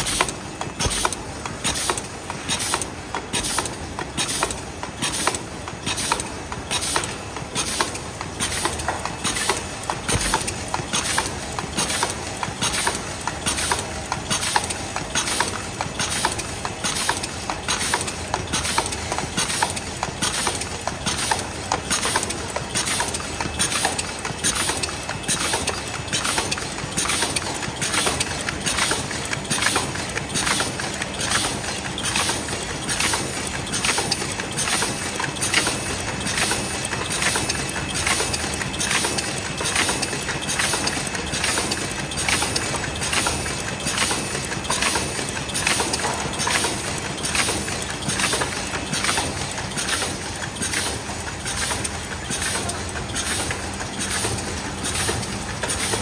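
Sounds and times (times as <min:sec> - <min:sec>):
machine clacking rhythmically: 0:00.0 - 0:56.0.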